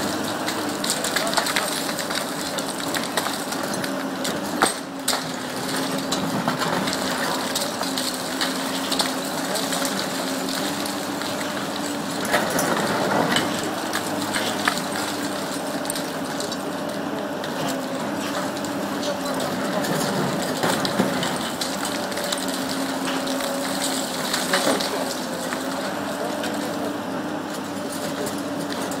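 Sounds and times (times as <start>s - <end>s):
falling debris: 0.0s - 26.9s
concrete cracking and breaking: 0.0s - 29.0s
excavator engine and hydraulics droning: 0.0s - 29.0s.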